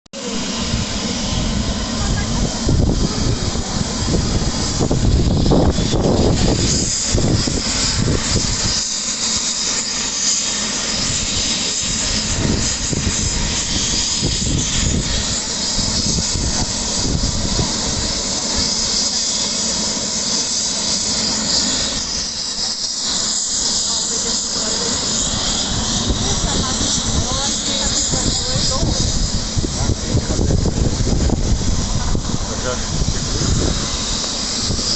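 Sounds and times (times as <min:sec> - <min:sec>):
helicopter turbine and rotor: 0:00.2 - 0:34.9.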